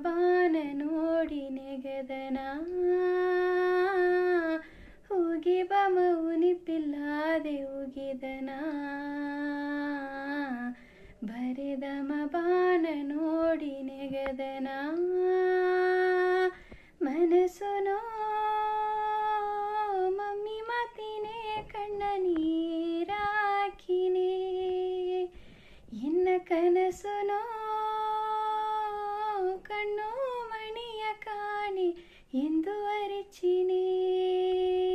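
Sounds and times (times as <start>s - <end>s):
woman singing unaccompanied: 0.0s - 34.9s.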